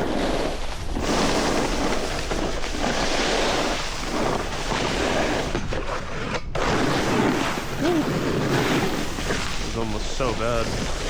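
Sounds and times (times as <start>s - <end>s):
snowboard scraping icy snow: 0.0s - 11.0s.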